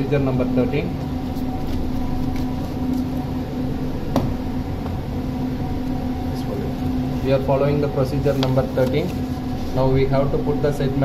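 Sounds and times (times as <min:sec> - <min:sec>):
low steady tones: 0:00.0 - 0:11.0
machinery hum: 0:00.0 - 0:11.0.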